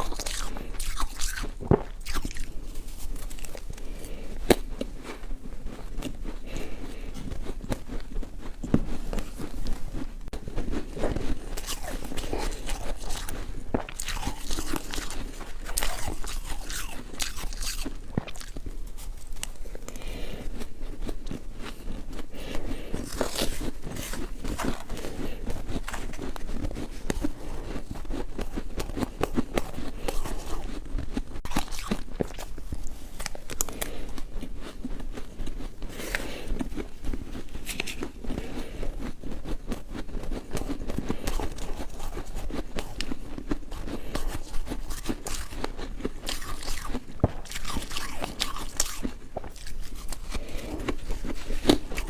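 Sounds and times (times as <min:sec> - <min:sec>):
ice crunching between teeth: 0:00.0 - 0:52.0.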